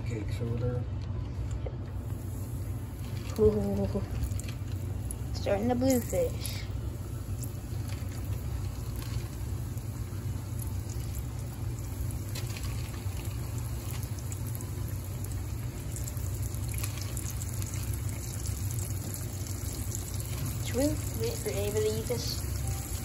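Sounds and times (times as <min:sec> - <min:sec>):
steady low hum: 0:00.0 - 0:23.0
fish sizzling in frying oil: 0:02.0 - 0:23.0.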